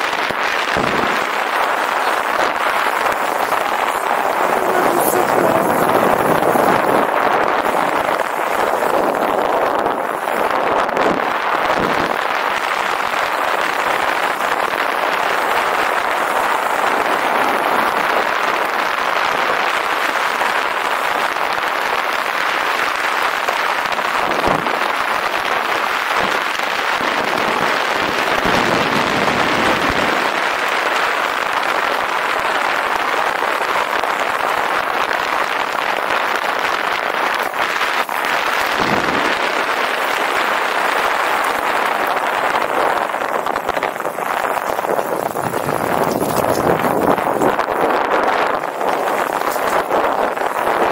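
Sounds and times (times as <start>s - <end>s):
bicycle tyres on gravel: 0.0s - 50.9s
wind on microphone: 0.0s - 50.9s.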